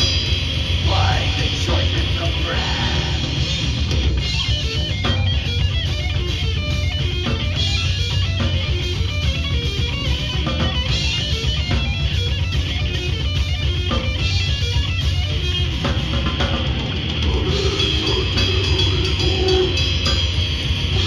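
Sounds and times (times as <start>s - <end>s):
bass guitar: 0.0s - 21.0s
distorted electric guitar: 0.0s - 21.0s
fast drumming: 0.0s - 21.0s.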